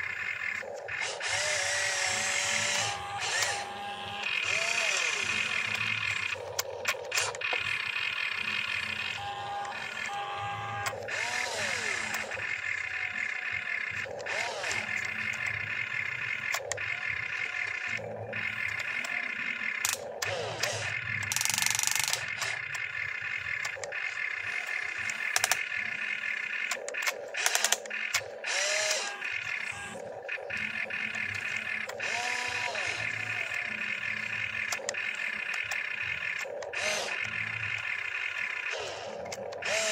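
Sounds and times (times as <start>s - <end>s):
electric gear motors whining: 0.0s - 39.9s
ratcheting gear clicks: 4.2s - 39.9s.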